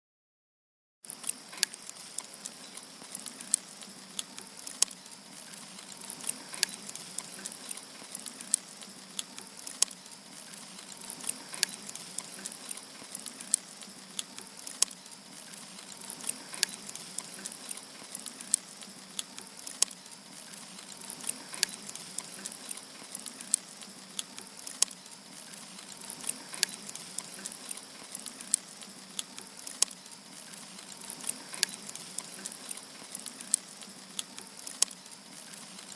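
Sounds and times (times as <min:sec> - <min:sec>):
fire hissing: 0:01.0 - 0:35.9
campfire crackling and popping: 0:01.1 - 0:35.9.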